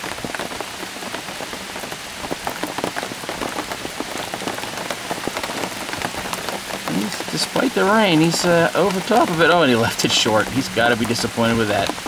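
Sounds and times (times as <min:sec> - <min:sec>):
raindrops ticking: 0:00.0 - 0:12.0
steady rain: 0:00.0 - 0:12.0.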